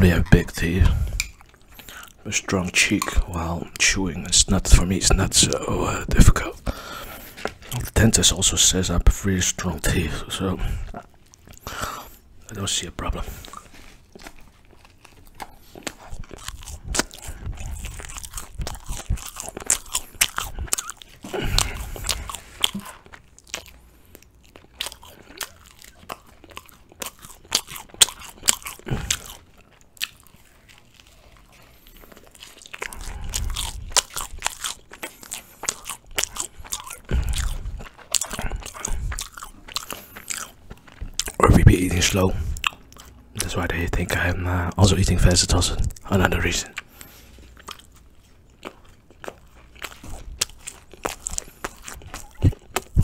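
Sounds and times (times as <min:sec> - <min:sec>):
biting and chewing flatbread: 0:00.0 - 0:08.8, 0:09.4 - 0:44.3, 0:45.8 - 0:53.0.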